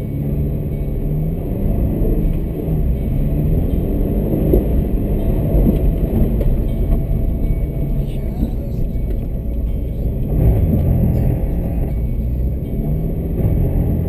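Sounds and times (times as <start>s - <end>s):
car engine pulling away: 0.0s - 14.0s
tyres rumbling on snowy road: 0.0s - 14.0s.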